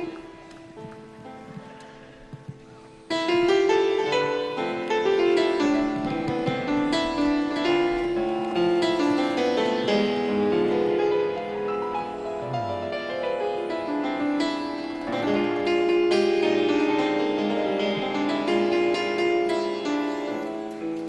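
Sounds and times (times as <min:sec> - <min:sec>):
live band keyboard instrumental: 0:00.0 - 0:21.0.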